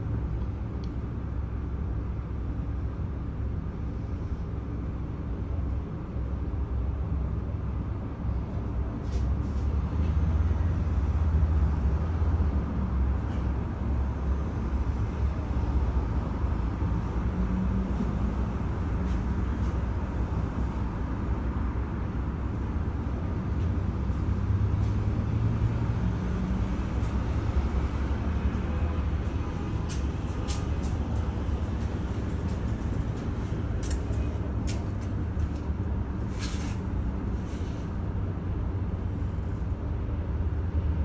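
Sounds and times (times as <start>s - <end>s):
road traffic passing: 0.0s - 41.0s
tram interior rumble and hum: 0.0s - 41.0s.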